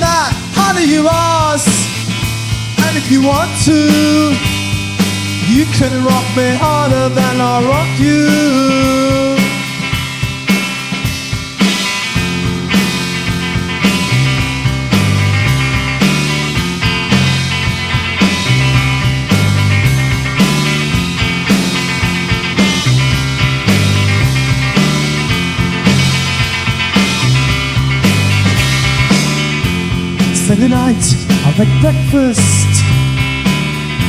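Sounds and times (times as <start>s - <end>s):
bass line: 0.0s - 34.0s
distorted guitars: 0.0s - 34.0s
steady drum beat: 0.0s - 34.0s.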